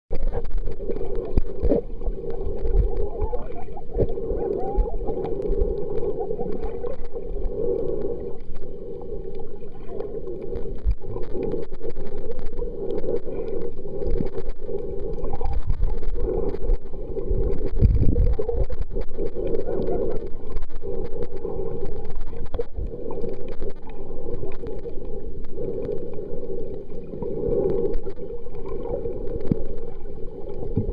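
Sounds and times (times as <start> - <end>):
muffled underwater rushing: 0.1 - 30.9.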